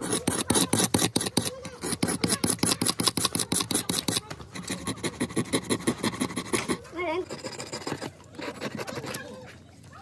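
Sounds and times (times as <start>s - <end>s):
hand rubbing a hard surface: 0.0s - 9.6s.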